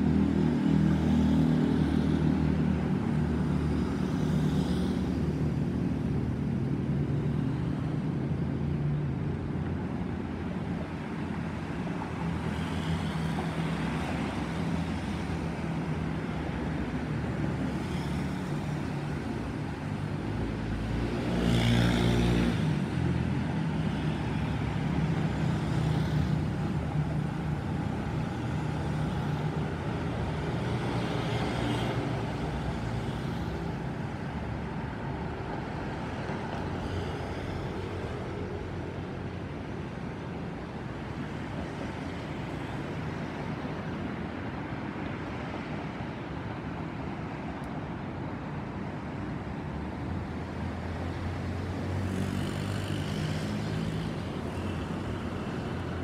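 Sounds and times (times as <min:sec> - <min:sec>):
road traffic noise: 0:00.0 - 0:56.0
vehicles passing: 0:00.0 - 0:56.0.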